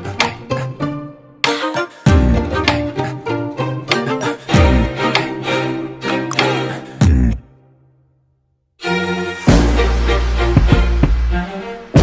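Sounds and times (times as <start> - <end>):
background music: 0.0 - 8.1, 8.8 - 12.0.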